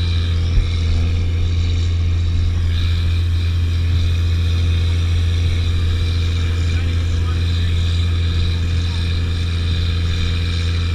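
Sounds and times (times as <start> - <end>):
snowcat engine drone: 0.0 - 10.9.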